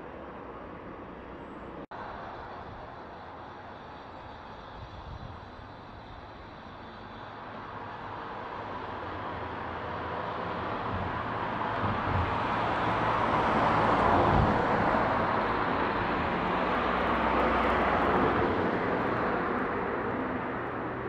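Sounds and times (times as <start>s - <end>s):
passing vehicle engine hum: 0.0s - 21.0s.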